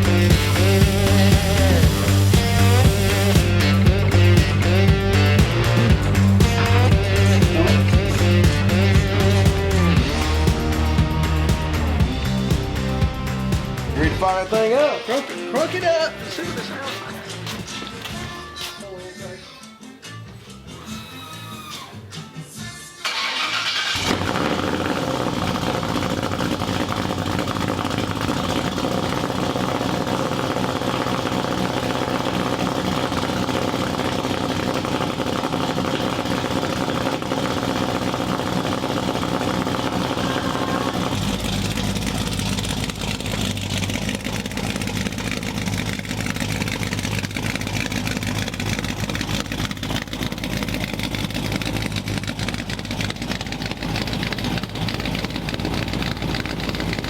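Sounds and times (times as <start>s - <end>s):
vvee eight engine idling: 0.0s - 14.8s, 23.1s - 57.0s.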